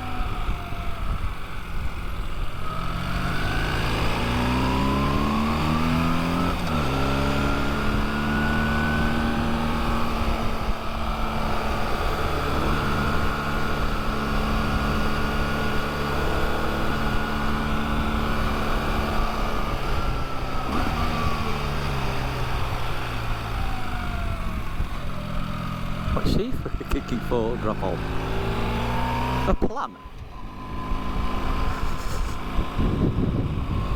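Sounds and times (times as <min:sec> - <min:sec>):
low wind noise: 0:00.0 - 0:26.9, 0:27.9 - 0:33.9
motorcycle engine: 0:00.0 - 0:33.9.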